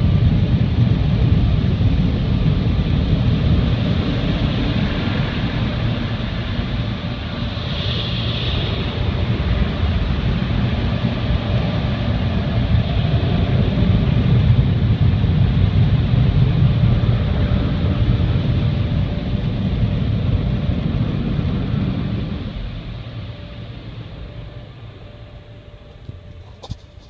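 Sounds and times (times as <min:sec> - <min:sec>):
car wash air dryers blowing: 0:02.0 - 0:27.0.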